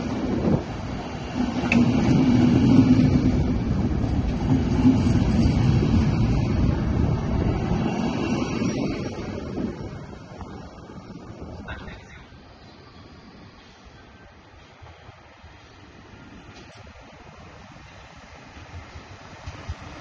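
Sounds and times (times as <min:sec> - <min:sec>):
train hum: 0:00.0 - 0:20.0
train wheels rumbling on rail: 0:00.0 - 0:20.0.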